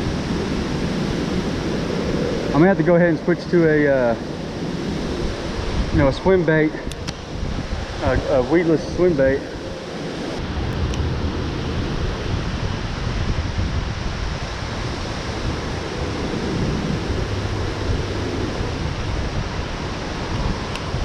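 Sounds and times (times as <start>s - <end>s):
wind and rain rushing: 0.0s - 21.0s
wind buffeting microphone: 0.0s - 21.0s.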